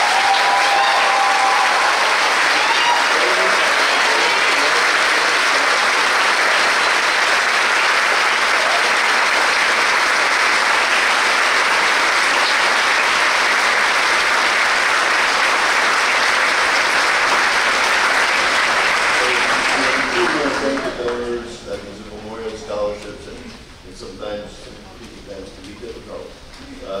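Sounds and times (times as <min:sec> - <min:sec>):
large audience applauding: 0:00.0 - 0:21.8.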